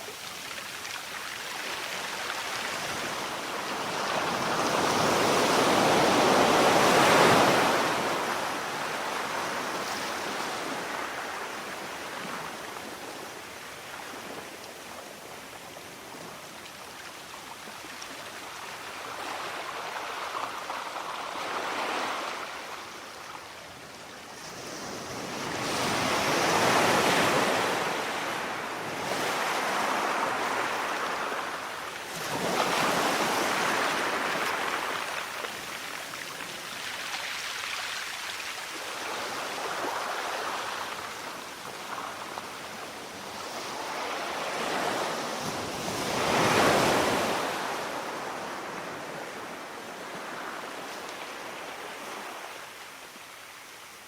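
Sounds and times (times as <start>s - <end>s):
sea waves breaking on shore: 0.0s - 23.4s, 24.3s - 53.2s.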